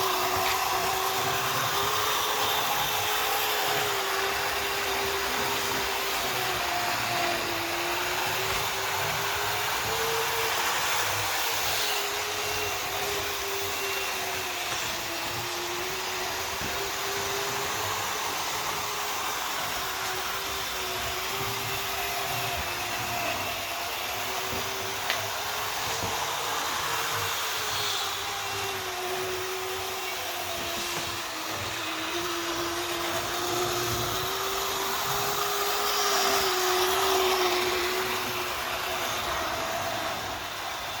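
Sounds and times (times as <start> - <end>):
model train motor whining: 0.0 - 41.0.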